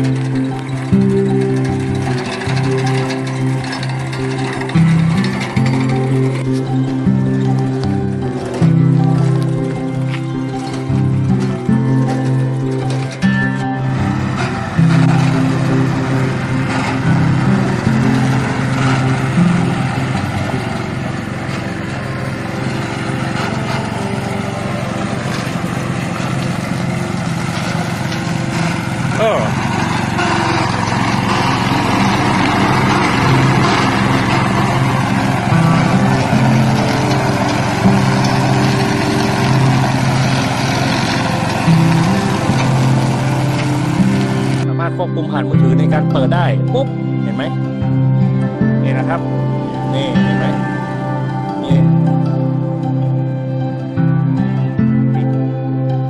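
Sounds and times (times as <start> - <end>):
background music: 0.0 - 56.0
lawn mower engine running: 0.0 - 56.0.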